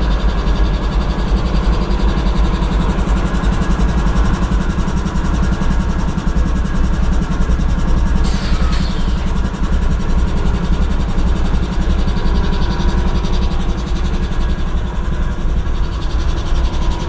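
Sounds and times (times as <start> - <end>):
diesel locomotive engine idling: 0.0 - 17.0.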